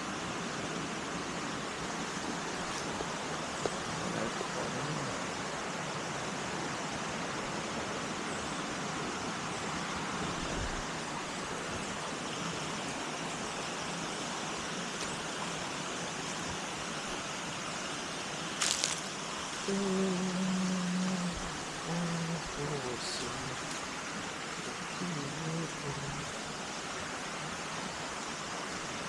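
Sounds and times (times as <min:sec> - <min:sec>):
waterfall and stream rushing: 0:00.0 - 0:29.0.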